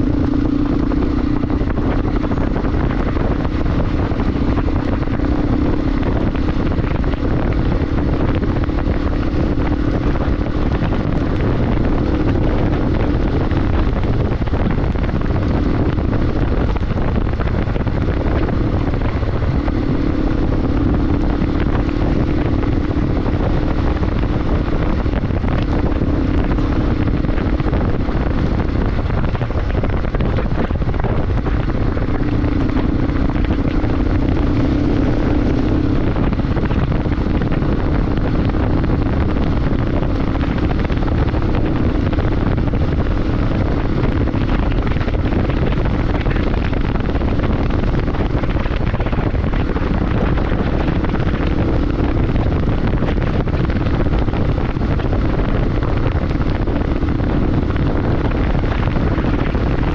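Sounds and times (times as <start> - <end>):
motorcycle engine: 0.0 - 59.9
wind rushing over microphone: 0.0 - 59.9.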